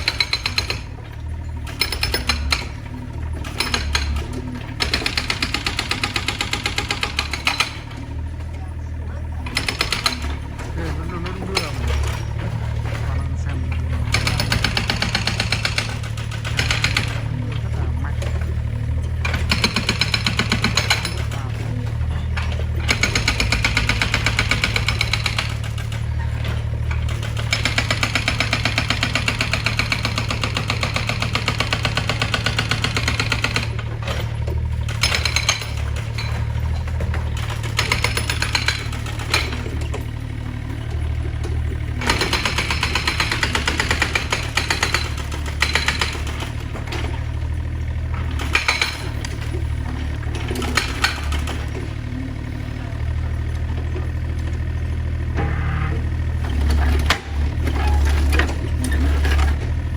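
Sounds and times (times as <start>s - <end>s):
rhythmic hammering on masonry: 0.0s - 55.2s
diesel engine running: 0.0s - 59.9s.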